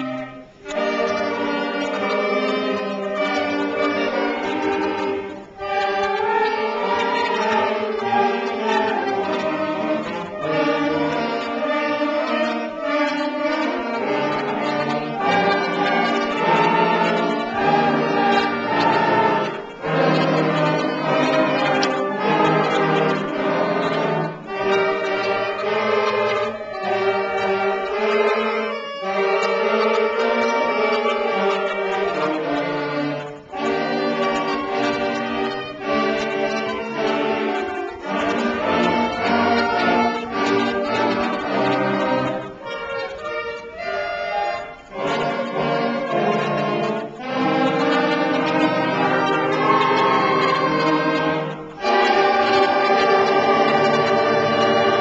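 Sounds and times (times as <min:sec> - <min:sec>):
concert band playing: 0:00.0 - 0:42.4, 0:44.3 - 0:55.0.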